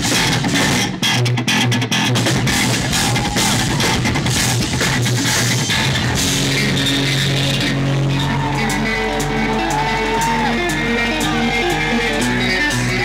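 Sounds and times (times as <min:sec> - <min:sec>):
drum kit and cymbals: 0:00.0 - 0:01.0, 0:02.2 - 0:13.0
bass notes: 0:00.0 - 0:13.0
electric guitars: 0:00.0 - 0:13.0.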